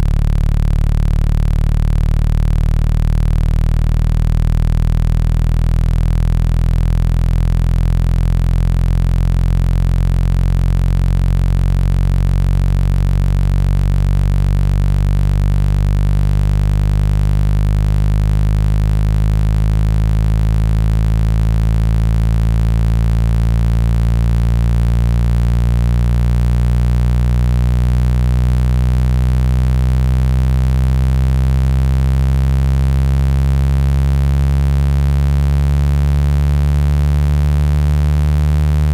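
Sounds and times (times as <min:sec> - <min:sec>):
low electronic hum: 0:00.0 - 0:38.9.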